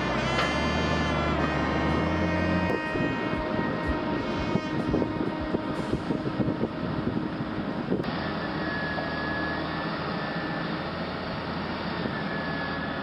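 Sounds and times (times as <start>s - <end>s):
heavy machinery engine running: 0.0s - 13.0s
thin high whine: 0.0s - 13.0s.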